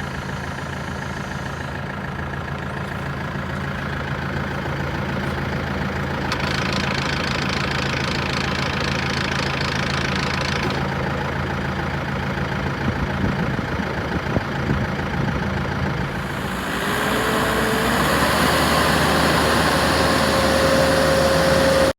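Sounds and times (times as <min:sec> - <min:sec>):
engine whine: 0:00.0 - 0:21.9
tractor diesel engine idling: 0:00.0 - 0:21.9.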